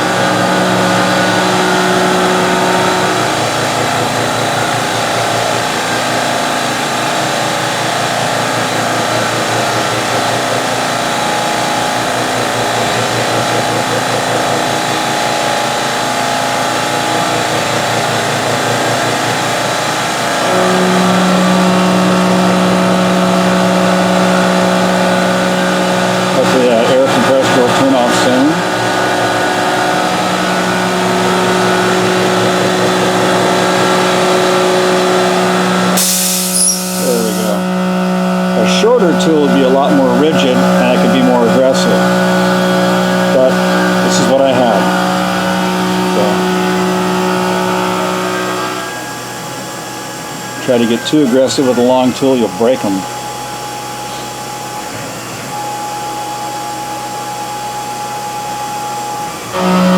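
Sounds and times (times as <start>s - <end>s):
air compressor running: 0.0s - 59.9s
milling machine cutting metal: 0.0s - 59.9s
steady whine: 0.0s - 59.9s.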